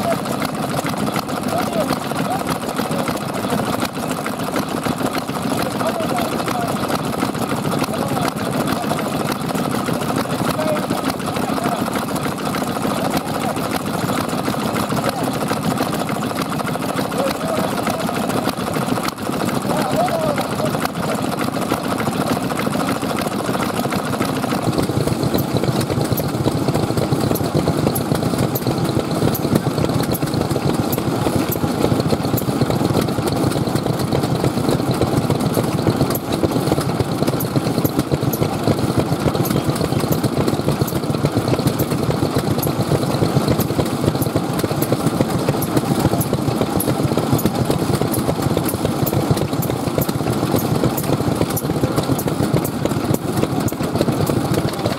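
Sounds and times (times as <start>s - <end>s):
stationary engines chugging: 0.0s - 54.9s.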